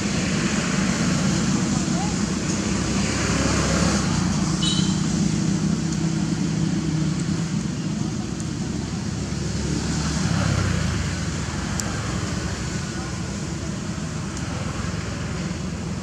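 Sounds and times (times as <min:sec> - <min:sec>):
low rumble of road traffic: 0:00.0 - 0:16.0.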